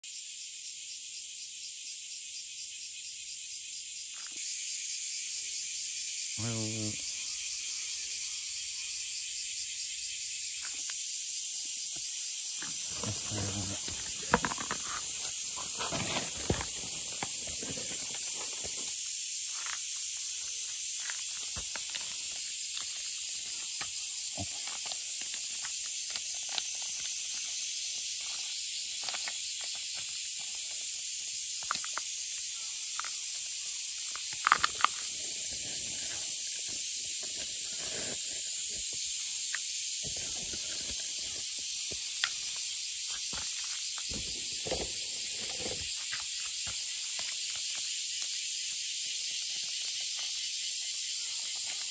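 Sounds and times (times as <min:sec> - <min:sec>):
cicada chorus: 0:00.0 - 0:51.9.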